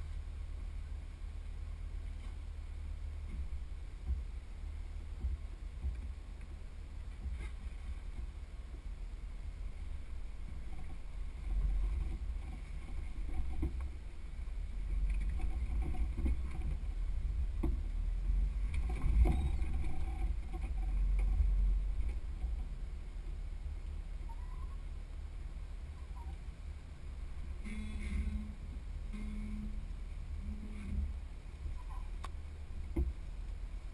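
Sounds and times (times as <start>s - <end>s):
muffled vehicle engine rumble: 0.0s - 33.9s.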